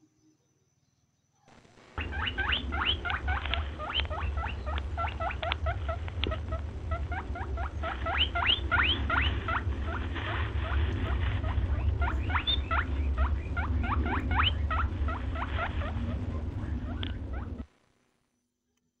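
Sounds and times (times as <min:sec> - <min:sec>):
steady low hum: 0:01.5 - 0:18.2
rapid high-pitched squeaks: 0:01.6 - 0:17.7.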